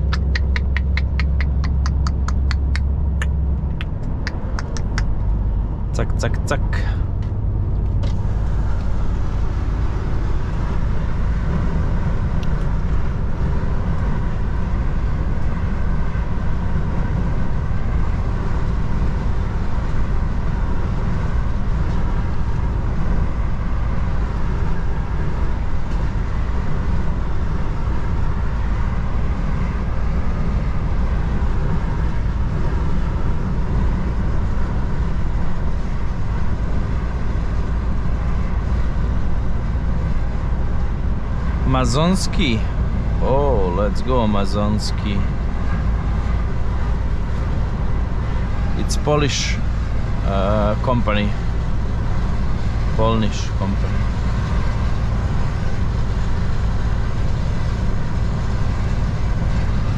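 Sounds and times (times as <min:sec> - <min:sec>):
truck driving drone: 0:00.0 - 0:59.9.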